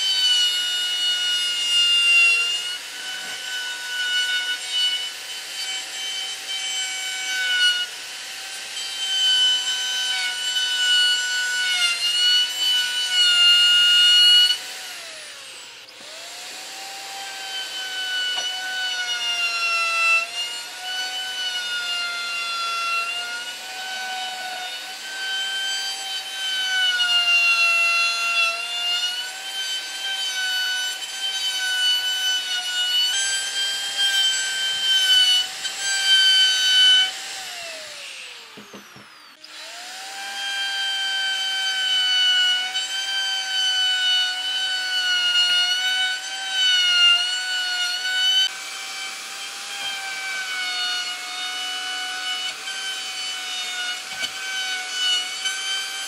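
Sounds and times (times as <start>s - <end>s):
electric router whining: 0.0s - 56.0s.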